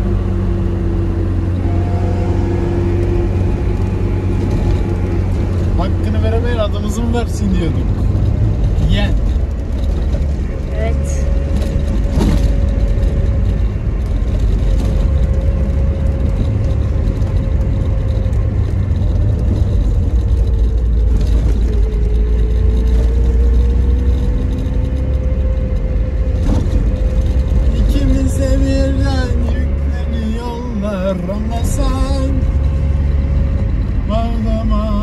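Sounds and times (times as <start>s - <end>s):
car engine drone with whine: 0.0s - 35.0s.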